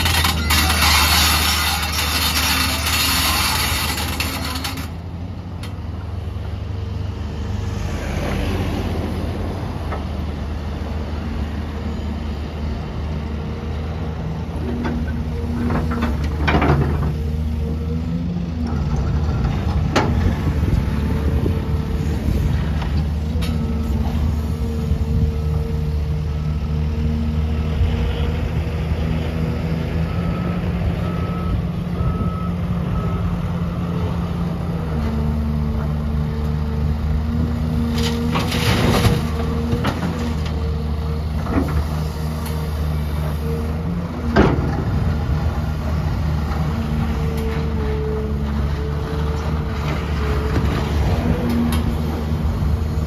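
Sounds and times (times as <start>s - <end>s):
excavator diesel engine: 0.0s - 53.0s.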